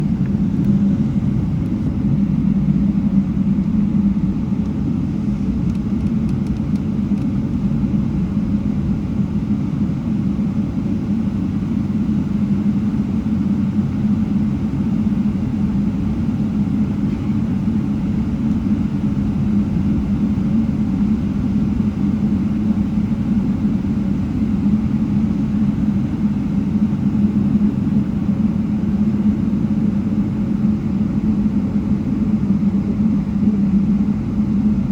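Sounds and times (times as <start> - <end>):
airplane cabin rumble and hum: 0.0 - 34.9.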